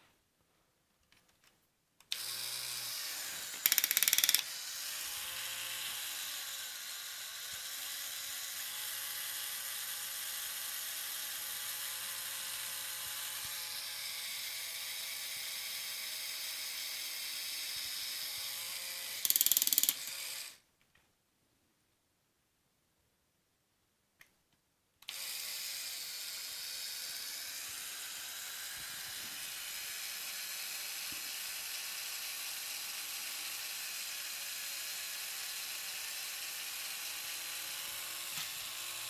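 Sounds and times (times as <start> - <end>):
toy motor and plastic gears whirring: 2.1 - 20.6, 25.0 - 39.0.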